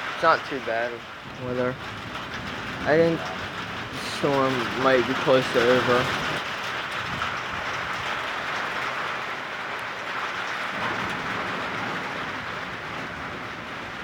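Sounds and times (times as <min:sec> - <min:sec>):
heavy rain: 0:00.0 - 0:14.0
wind: 0:00.0 - 0:14.0.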